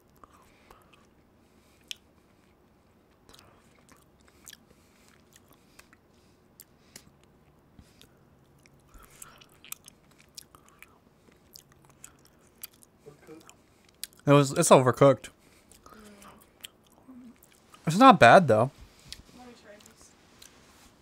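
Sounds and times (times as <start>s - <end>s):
person chewing: 0.1s - 14.2s, 15.4s - 17.8s, 20.3s - 20.6s.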